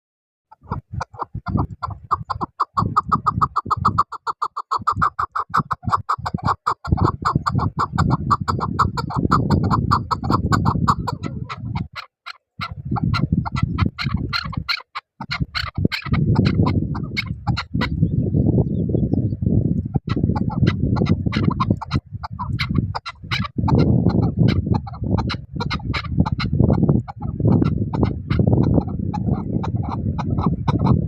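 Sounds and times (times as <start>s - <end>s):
partridge clucking calls: 0.5s - 18.3s, 19.9s - 31.0s.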